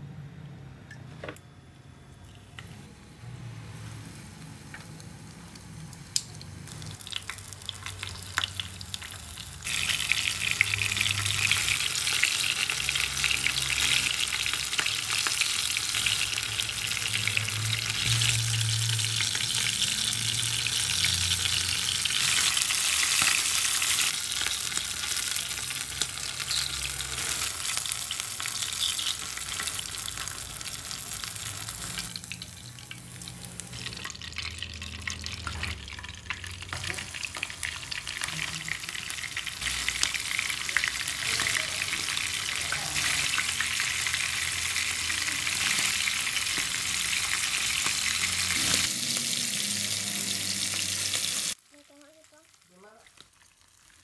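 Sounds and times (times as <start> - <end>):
shrimp sizzling in hot oil: 3.7 - 54.0.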